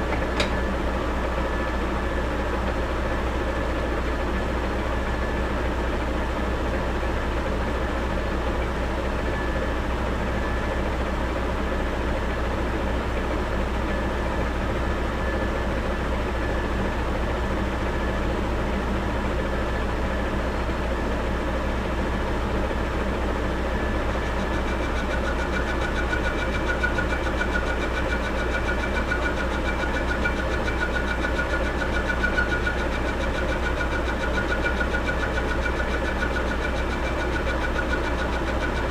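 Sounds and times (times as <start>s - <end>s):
lathe motor humming: 0.0s - 38.9s.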